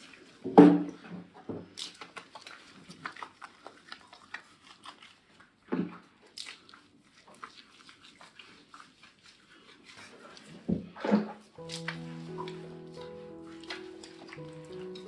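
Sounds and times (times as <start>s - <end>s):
wet squishing of shampoo lather: 0.0s - 15.0s.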